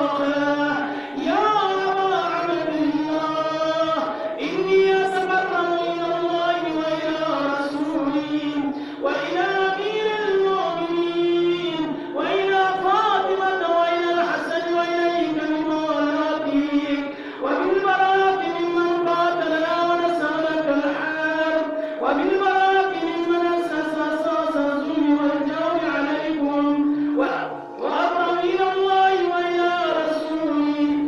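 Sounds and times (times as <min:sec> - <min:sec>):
man chanting a lament: 0:00.0 - 0:31.0.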